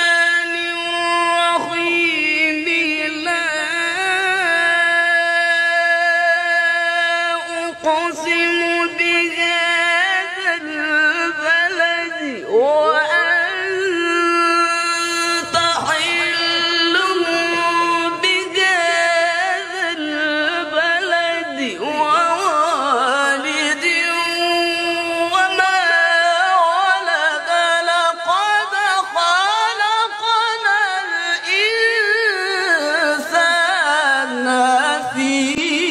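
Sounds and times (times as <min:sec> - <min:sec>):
man chanting recitation: 0:00.0 - 0:35.9.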